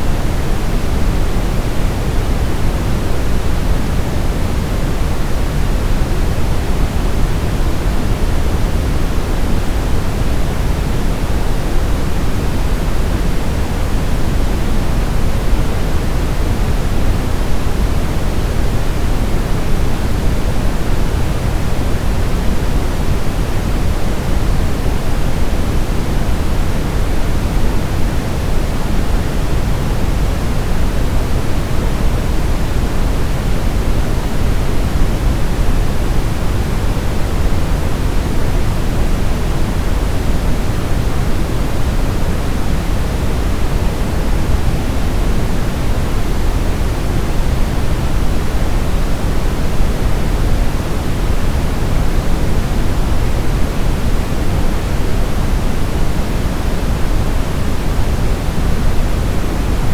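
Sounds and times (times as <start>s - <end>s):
low steady hiss: 0.0s - 59.9s.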